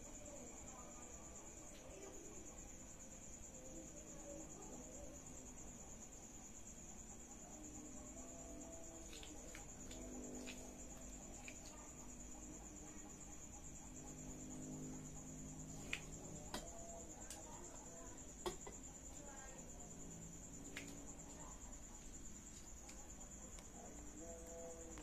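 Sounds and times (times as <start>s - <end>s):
crickets chirring: 0.0s - 25.0s.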